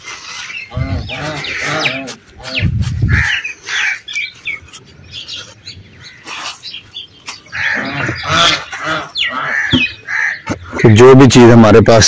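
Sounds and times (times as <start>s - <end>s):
dry soil scraping and knocks: 0.0s - 11.0s
birds chirping and calling: 0.0s - 12.0s.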